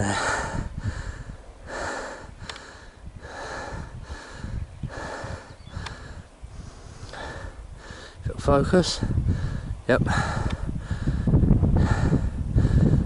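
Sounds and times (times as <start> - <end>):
man breathing heavily: 0.0 - 8.4, 9.0 - 13.0
wind rumble on microphone: 0.0 - 13.0.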